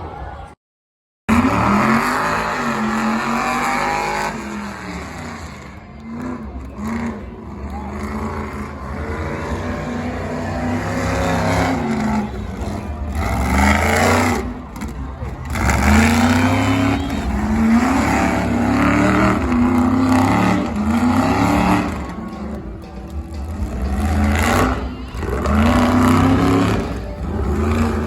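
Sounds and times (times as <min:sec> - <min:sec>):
truck engine revving hard: 0:01.3 - 0:28.0.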